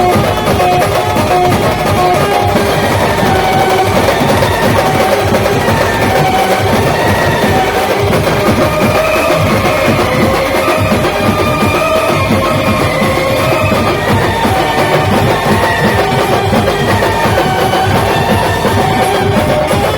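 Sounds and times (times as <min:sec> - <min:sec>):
fast drum beat: 0:00.0 - 0:19.9
loud band music: 0:00.0 - 0:19.9.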